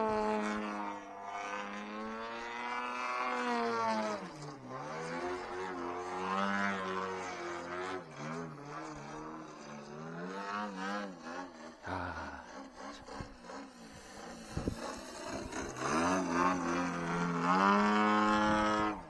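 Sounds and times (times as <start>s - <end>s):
model plane engine in flight: 0.0s - 19.0s.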